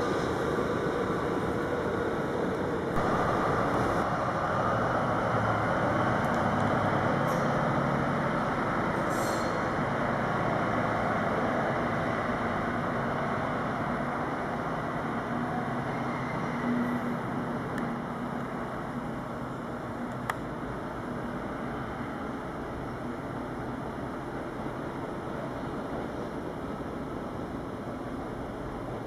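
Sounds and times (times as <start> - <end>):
diesel locomotive running: 0.0 - 29.0
electric train passing: 0.0 - 29.0.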